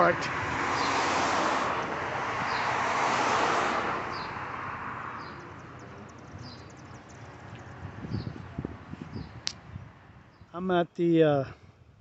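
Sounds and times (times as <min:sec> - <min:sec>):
cars passing: 0:00.0 - 0:10.8.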